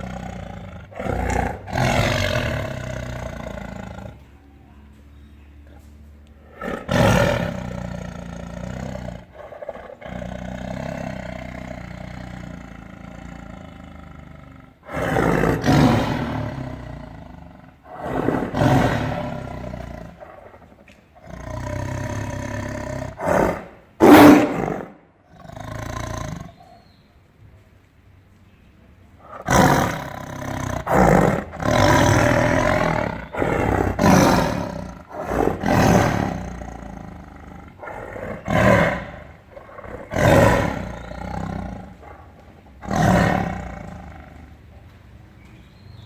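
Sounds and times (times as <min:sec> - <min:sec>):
tiger roaring: 0:00.0 - 0:04.4, 0:06.2 - 0:26.8, 0:29.2 - 0:44.8.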